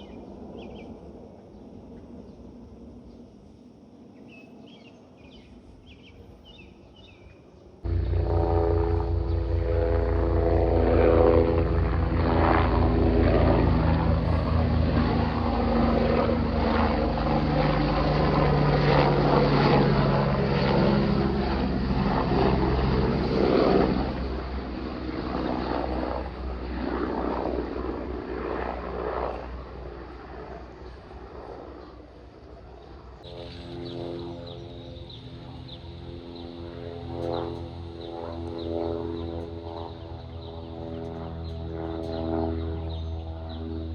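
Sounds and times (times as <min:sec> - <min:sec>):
aircraft passing overhead: 0:00.0 - 0:43.9.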